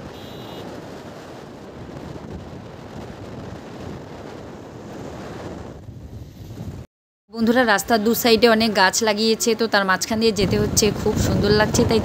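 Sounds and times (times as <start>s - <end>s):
wind buffeting microphone: 0.0s - 6.9s, 7.8s - 12.0s.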